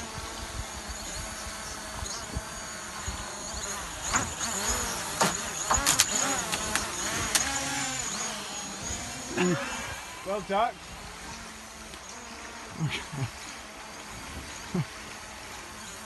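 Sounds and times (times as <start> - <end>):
drone propellers buzzing: 0.0 - 16.0
wind: 0.0 - 16.0
sea noise: 1.9 - 16.0.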